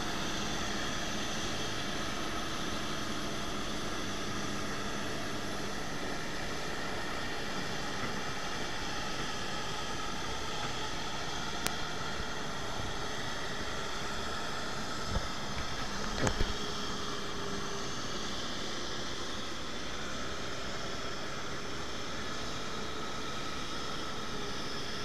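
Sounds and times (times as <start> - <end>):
jet engines idling: 0.0 - 25.0.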